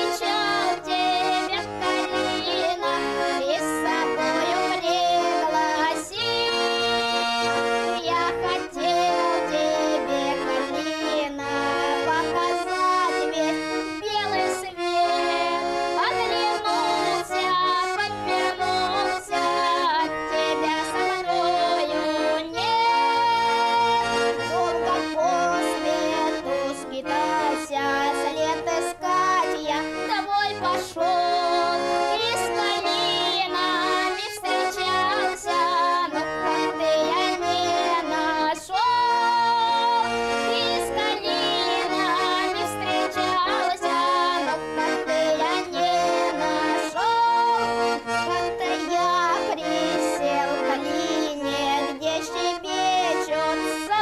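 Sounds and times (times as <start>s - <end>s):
accordion playing: 0.0s - 54.0s.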